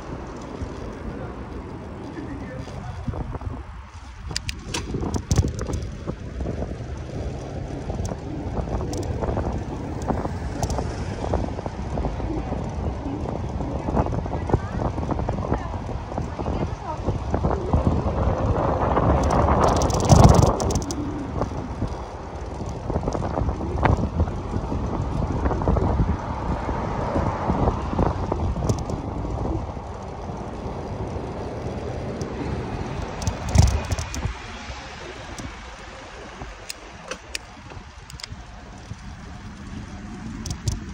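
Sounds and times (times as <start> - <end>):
bicycle road rumble: 0.0 - 40.9
wind on microphone: 0.0 - 40.9
rattles and clicks: 3.9 - 40.9.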